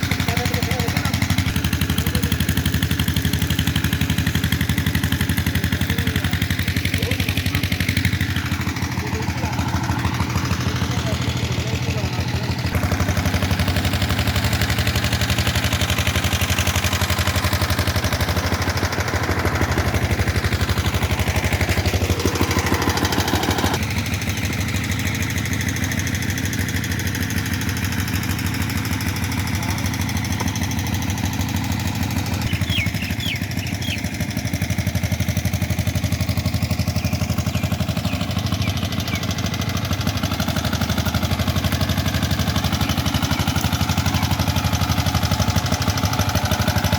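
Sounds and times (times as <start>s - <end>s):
diesel generator running: 0.0s - 46.9s.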